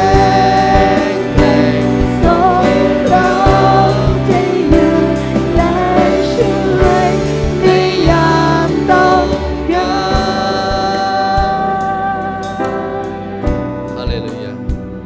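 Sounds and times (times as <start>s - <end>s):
voices singing together: 0.0s - 13.4s
live band playing worship song: 0.0s - 15.0s.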